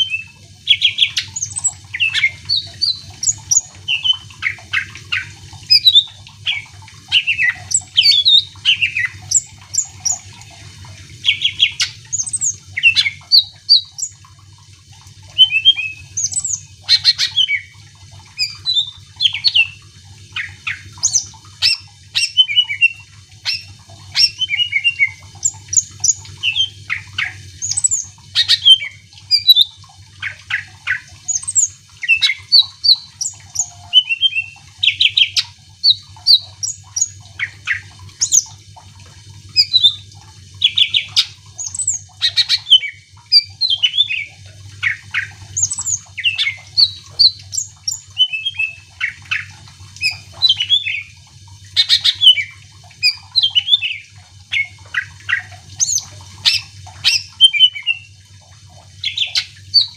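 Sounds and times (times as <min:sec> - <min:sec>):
bird singing chirps and whistles: 0:00.0 - 0:10.2, 0:11.2 - 0:14.2, 0:15.3 - 0:17.7, 0:18.3 - 0:19.8, 0:20.4 - 0:38.5, 0:39.6 - 0:40.0, 0:40.6 - 0:51.2, 0:51.8 - 0:58.1, 0:59.0 - 0:59.9.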